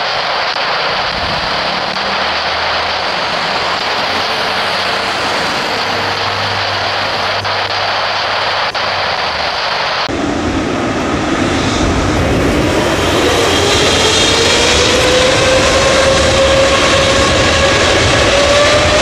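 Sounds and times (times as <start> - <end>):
jet engine whine: 0.0 - 19.0.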